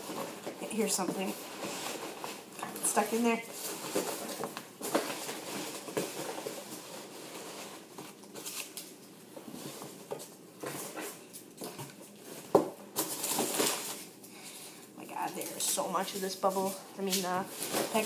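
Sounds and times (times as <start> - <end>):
rustling packing peanuts: 0.0 - 18.0.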